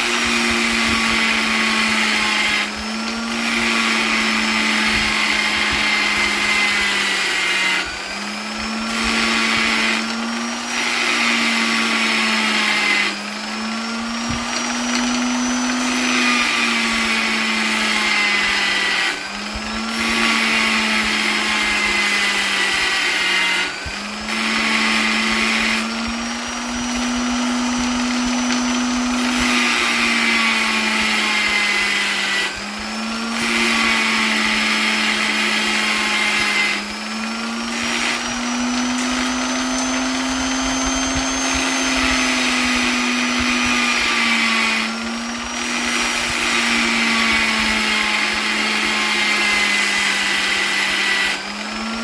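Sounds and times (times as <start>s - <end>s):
electric polisher motor whine: 0.0s - 52.0s.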